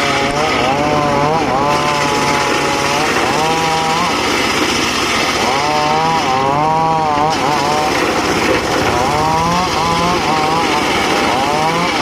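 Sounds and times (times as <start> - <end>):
circular saw cutting log: 0.0 - 12.0.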